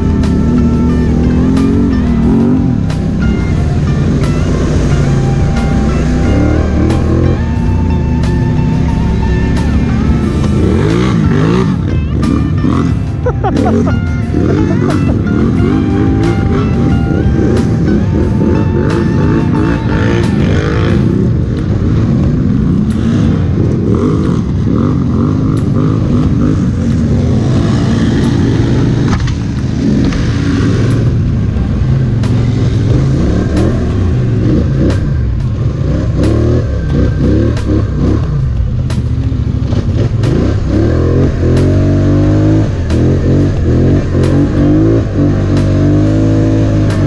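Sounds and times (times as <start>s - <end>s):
quad bike engines revving: 0.0s - 47.0s.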